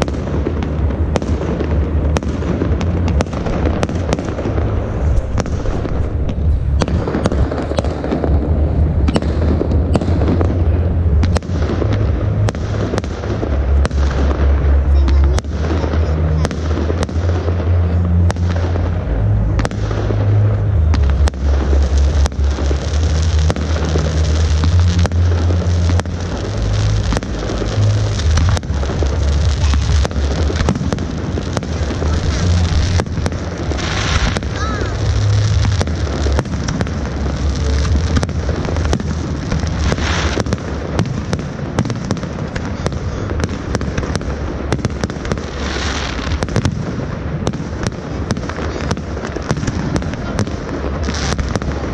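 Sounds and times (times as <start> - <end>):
fireworks bangs and crackles: 0.0 - 51.9
low rumble: 0.0 - 51.9.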